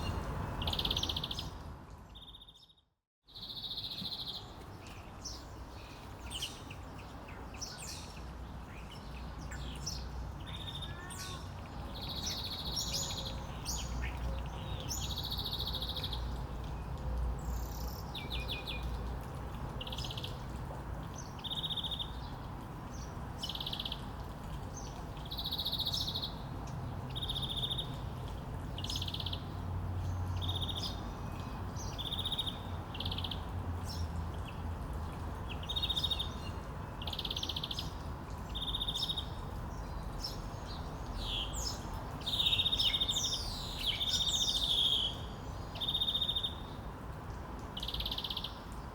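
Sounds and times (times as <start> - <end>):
songbirds chirping and trilling: 0.0 - 48.9.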